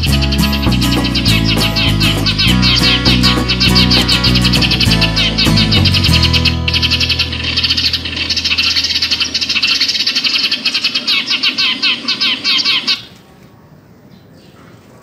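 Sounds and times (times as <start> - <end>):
small birds chirping: 0.0 - 13.4.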